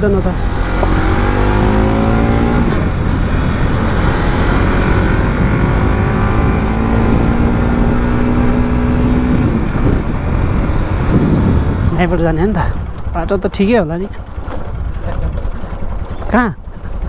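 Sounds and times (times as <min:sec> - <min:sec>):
vehicle engine accelerating: 0:00.0 - 0:17.0
wind and road noise: 0:00.0 - 0:17.0.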